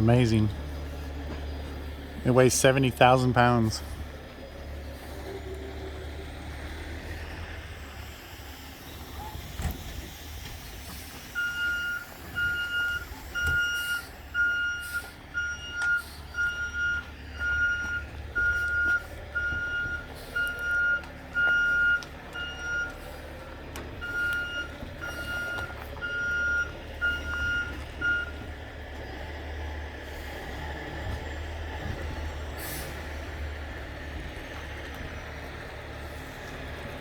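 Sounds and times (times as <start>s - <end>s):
truck backup alarm beeping: 0.0s - 36.9s
truck engine rumbling: 0.0s - 37.0s.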